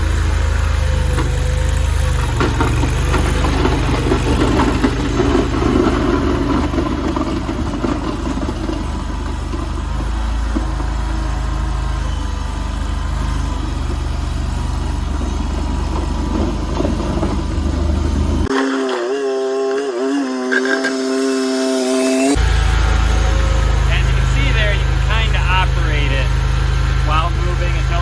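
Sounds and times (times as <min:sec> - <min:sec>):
engine running steadily: 0:00.0 - 0:18.7, 0:19.7 - 0:28.0.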